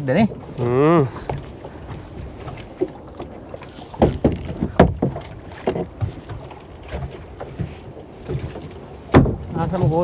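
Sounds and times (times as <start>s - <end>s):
knocks and clatters on a boat: 0.0s - 10.0s.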